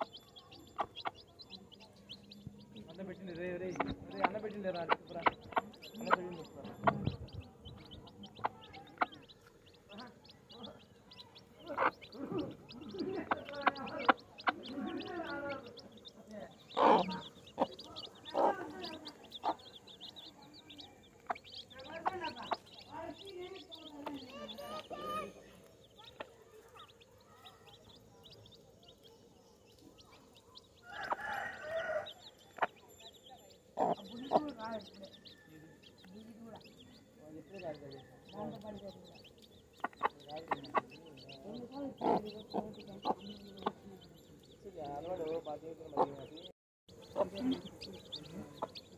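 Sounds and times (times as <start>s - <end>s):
hen clucking: 0.0s - 29.0s, 30.0s - 33.0s, 33.7s - 48.9s
chicks peeping: 0.0s - 48.9s.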